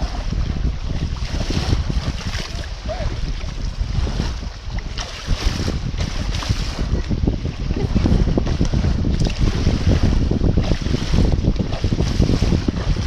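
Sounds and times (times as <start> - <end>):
small sea waves: 0.0 - 13.0
wind buffeting microphone: 0.0 - 13.0.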